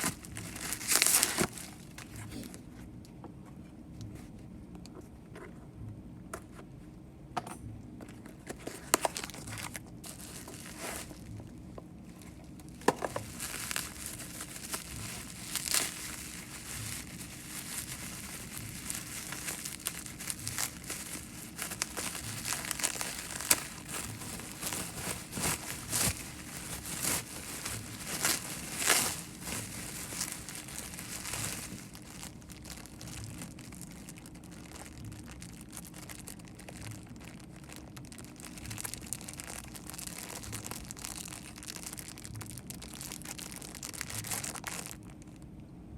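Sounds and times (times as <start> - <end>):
packaging crinkling and rustling: 0.0 - 2.7, 8.1 - 45.4.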